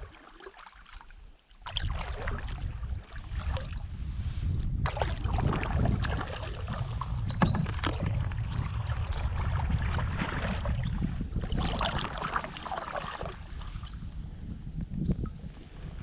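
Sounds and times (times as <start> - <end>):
paddle splashing water: 0.0 - 14.0
wind rumbling on microphone: 1.1 - 16.0.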